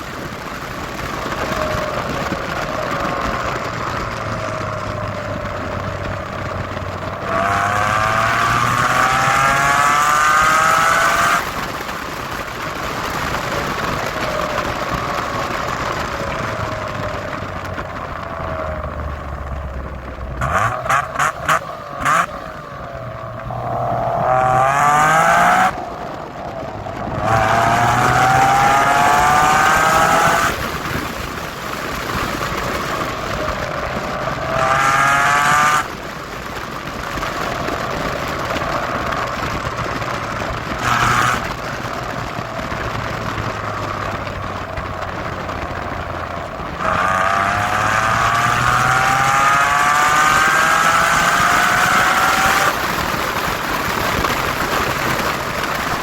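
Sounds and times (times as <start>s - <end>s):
car engine accelerating: 0.0s - 56.0s
sharp exhaust blasts: 0.0s - 56.0s.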